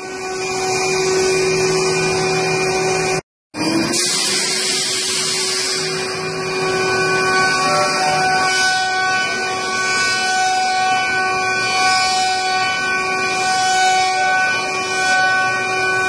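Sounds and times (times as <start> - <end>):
electric spindles whining: 0.0 - 16.0.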